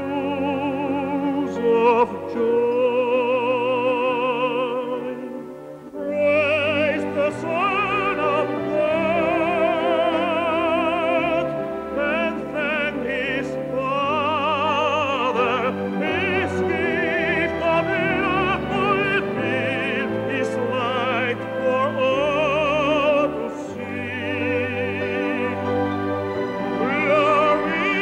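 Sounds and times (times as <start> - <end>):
operatic singing: 0.0 - 28.0
orchestral accompaniment: 0.0 - 28.0.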